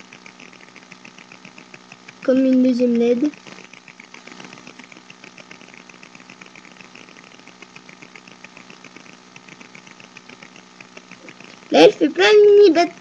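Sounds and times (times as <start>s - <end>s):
low electrical hum: 0.0s - 13.0s
wires crackling being twisted: 0.0s - 13.0s.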